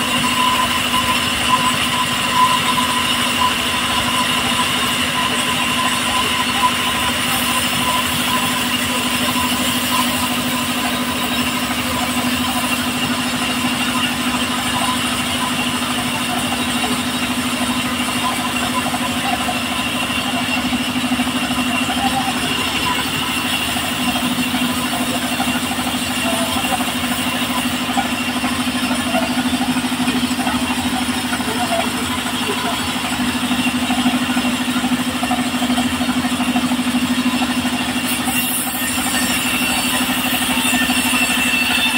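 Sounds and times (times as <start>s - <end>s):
sawmill machine humming: 0.0s - 41.9s.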